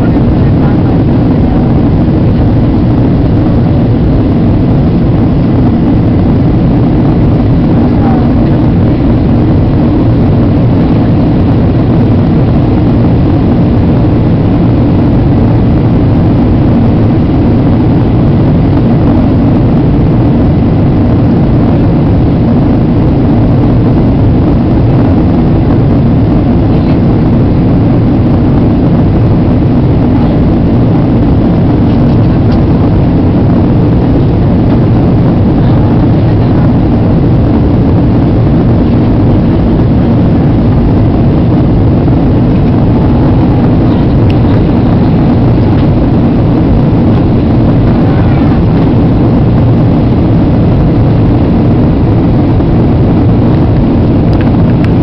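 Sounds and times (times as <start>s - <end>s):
airliner cabin airflow and engine rush: 0.0s - 55.0s
faint steady hum: 0.0s - 55.0s.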